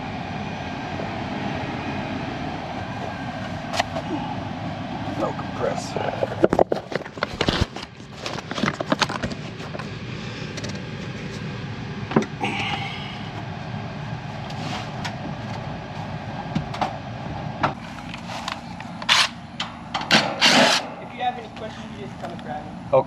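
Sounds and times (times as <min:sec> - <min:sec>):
air conditioner blower whoosh: 0:00.0 - 0:06.9, 0:07.6 - 0:23.0.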